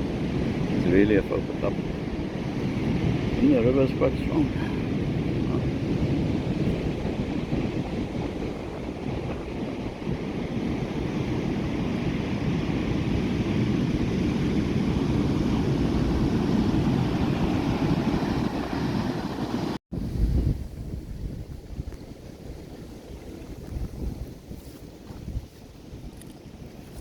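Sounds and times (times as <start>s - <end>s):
surf breaking on beach: 0.0s - 24.2s
wind buffeting microphone: 0.0s - 27.0s.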